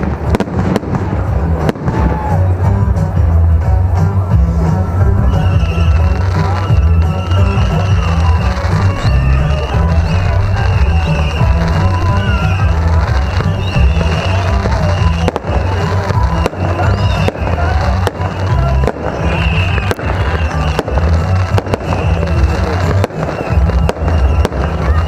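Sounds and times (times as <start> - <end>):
fireworks bursting: 0.0 - 3.4, 4.5 - 25.0
loud music with heavy bass: 0.0 - 25.0.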